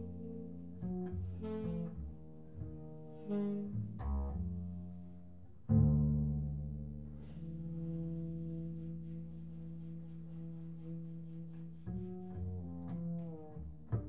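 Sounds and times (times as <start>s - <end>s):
double bass notes: 0.0s - 14.0s.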